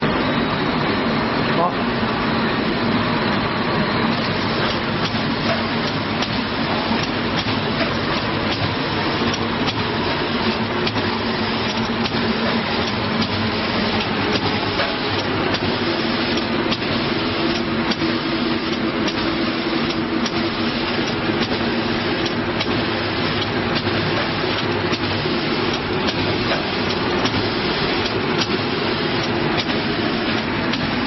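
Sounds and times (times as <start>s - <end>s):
machine hum and rush: 0.0s - 31.0s.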